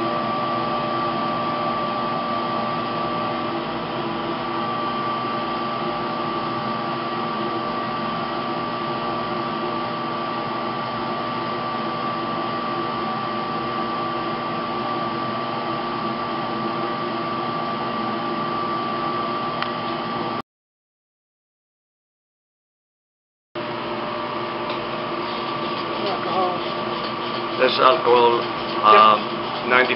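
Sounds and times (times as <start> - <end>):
blower fan rushing: 0.0 - 20.4, 23.6 - 29.9.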